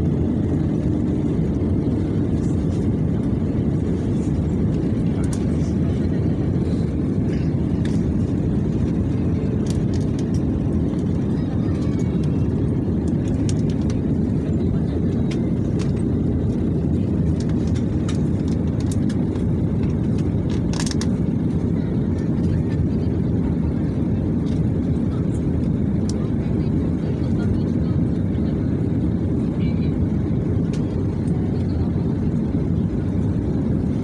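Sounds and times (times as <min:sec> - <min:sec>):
airliner cabin engine roar: 0:00.0 - 0:34.0.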